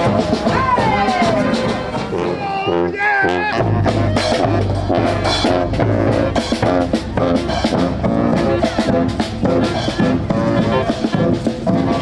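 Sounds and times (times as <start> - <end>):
brass band horns playing: 0.0 - 12.0
steady drum beat: 0.0 - 12.0.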